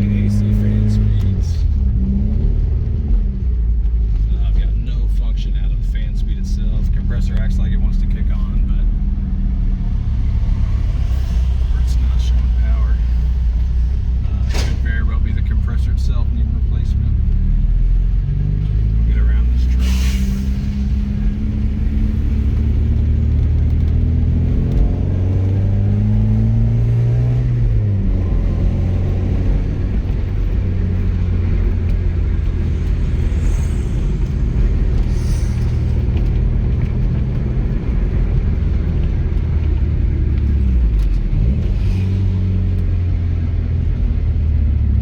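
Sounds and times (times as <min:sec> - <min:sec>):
car engine running: 0:00.0 - 0:45.0.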